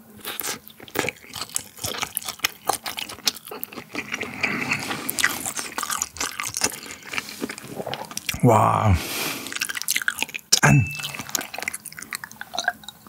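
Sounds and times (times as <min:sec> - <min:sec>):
wet chewing: 0:00.2 - 0:08.4, 0:09.4 - 0:13.0.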